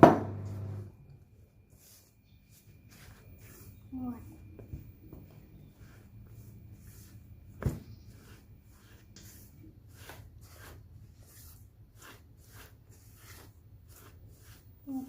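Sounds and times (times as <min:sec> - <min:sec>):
hands kneading sticky dough: 0:01.1 - 0:15.0.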